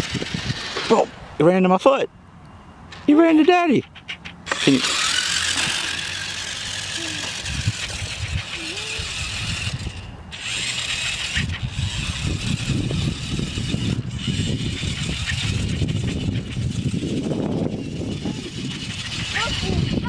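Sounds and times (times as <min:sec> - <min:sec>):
toy truck motor whirring: 0:00.0 - 0:01.1, 0:03.8 - 0:20.0.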